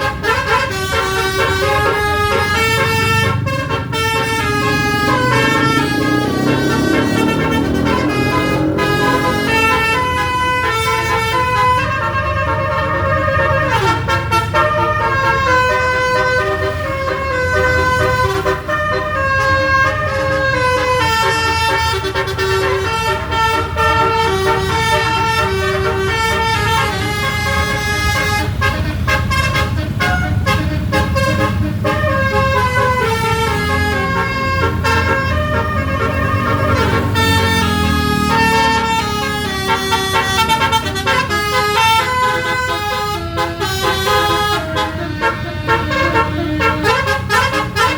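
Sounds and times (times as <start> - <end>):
low engine rumble: 0.0 - 47.9
musical air horn playing a tune: 0.0 - 47.9.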